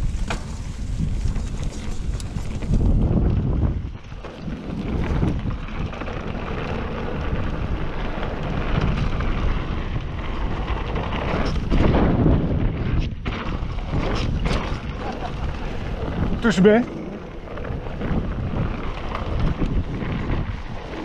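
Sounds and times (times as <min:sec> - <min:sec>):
bike tyres rumbling on gravel: 0:00.0 - 0:21.0
wind buffeting microphone: 0:00.0 - 0:21.0.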